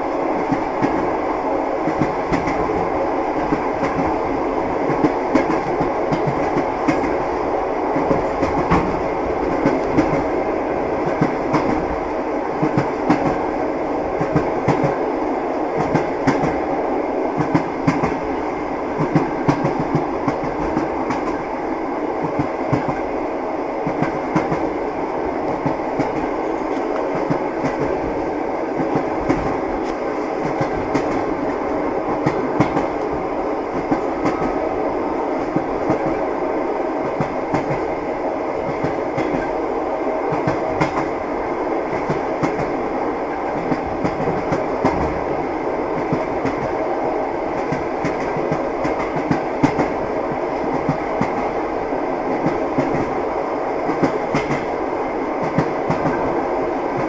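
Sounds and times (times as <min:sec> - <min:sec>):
train rumble: 0:00.0 - 0:57.0
train wheels clacking on rails: 0:00.0 - 0:57.0.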